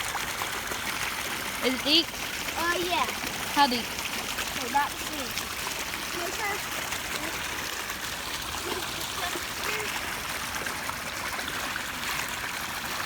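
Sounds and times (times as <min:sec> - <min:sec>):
floodwater rushing in a creek: 0:00.0 - 0:13.0.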